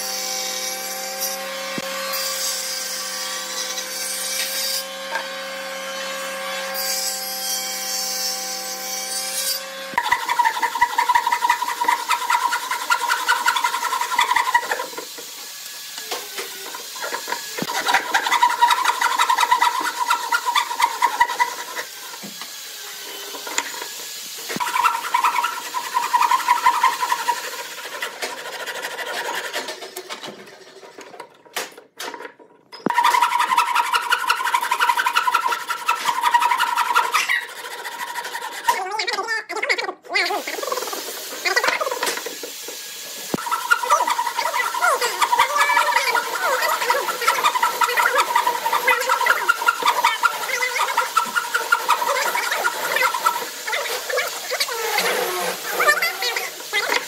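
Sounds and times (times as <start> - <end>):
table saw cutting wood: 0.0 - 39.0, 40.2 - 57.0
hand tool scraping wood: 9.1 - 31.7, 32.3 - 39.0, 40.3 - 57.0.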